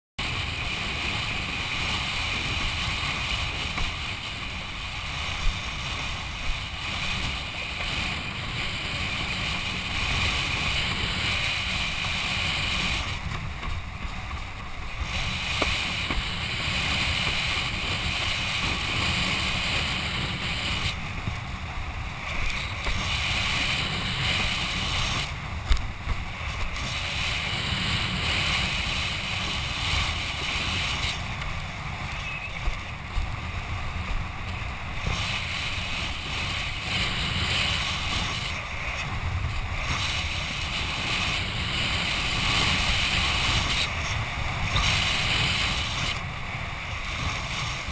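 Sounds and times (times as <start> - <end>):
water rushing under board: 0.2 - 47.9
wind buffeting microphone: 0.2 - 47.9.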